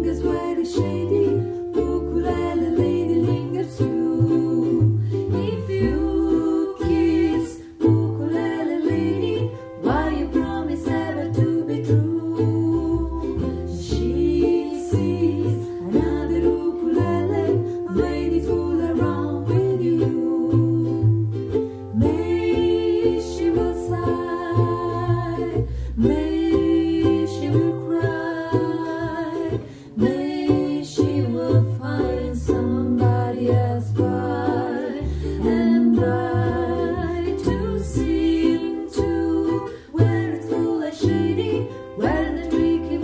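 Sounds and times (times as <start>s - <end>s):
woman singing jazz: 0.0s - 21.3s, 22.0s - 43.0s
plucked double bass: 0.0s - 43.0s
ukulele strumming: 0.0s - 43.0s.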